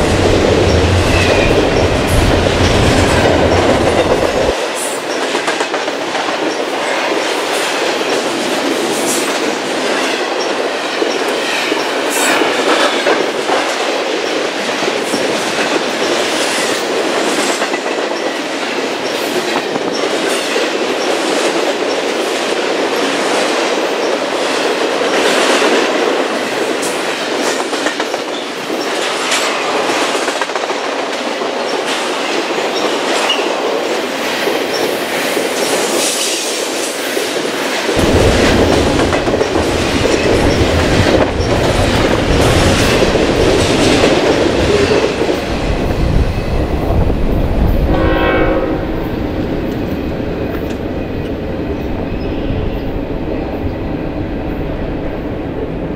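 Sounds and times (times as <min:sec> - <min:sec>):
wheels clacking over rail joints: 0:00.0 - 0:46.3
freight train wheels rumbling on rail: 0:00.0 - 0:55.9.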